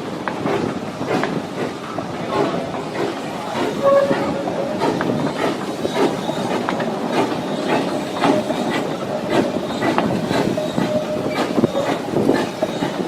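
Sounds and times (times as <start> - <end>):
knocks and clacks on track: 0.0 - 13.0
train cars rattling: 0.0 - 13.0.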